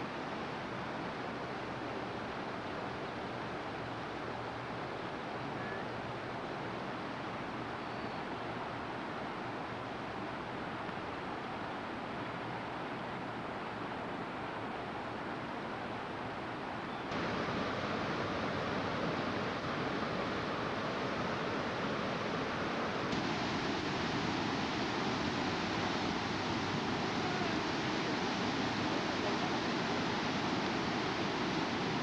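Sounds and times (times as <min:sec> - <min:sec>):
flowing water rushing: 0:00.0 - 0:32.0.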